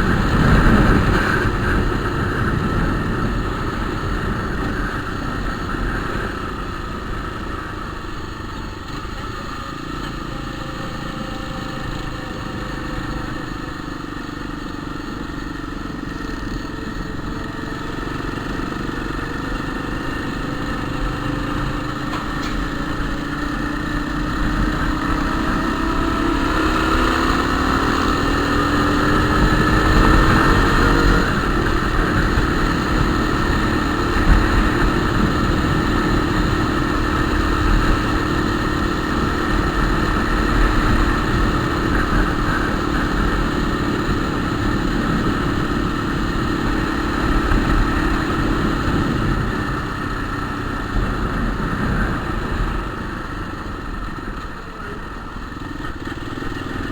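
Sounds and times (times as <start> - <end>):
constant low rumble: 0.0 - 56.9
motorcycle engine speeding up: 0.0 - 56.9.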